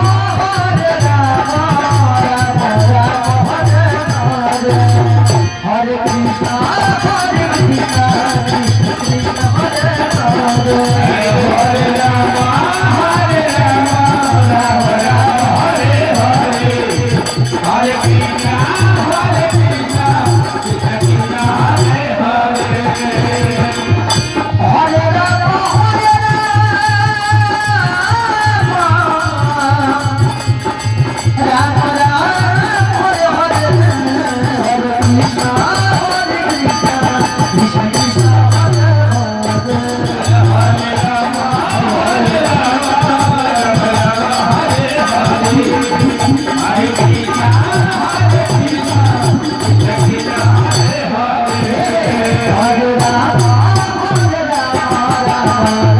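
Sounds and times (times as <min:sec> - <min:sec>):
person singing devotional melody: 0:00.0 - 0:55.9
rattling hand percussion: 0:00.0 - 0:55.9
steady drum beat: 0:00.0 - 0:55.9.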